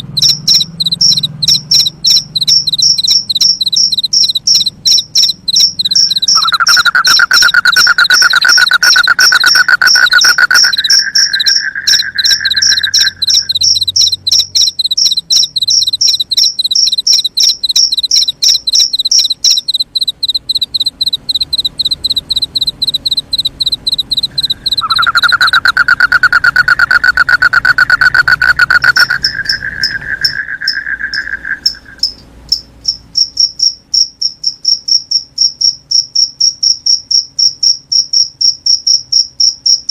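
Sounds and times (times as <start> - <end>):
crickets chirping: 0.0 - 39.9
low continuous insect trill: 0.1 - 39.9.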